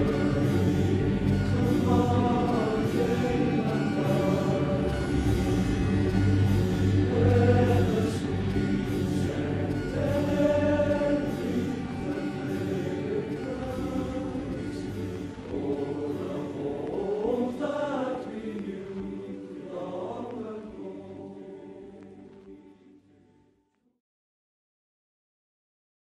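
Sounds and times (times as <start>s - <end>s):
male voice choir singing: 0.0s - 23.1s.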